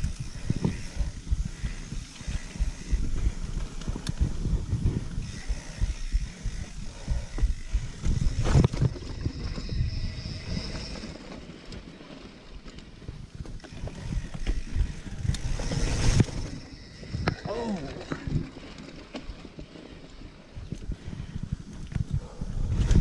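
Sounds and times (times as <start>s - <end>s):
bike tyres rumbling on dirt: 0.0s - 23.0s.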